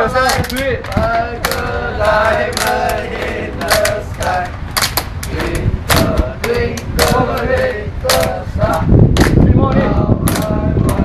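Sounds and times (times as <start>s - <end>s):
group of voices chanting: 0.0s - 4.6s, 5.2s - 11.0s
sharp hand claps: 0.2s - 8.4s, 9.1s - 9.5s, 10.2s - 11.0s.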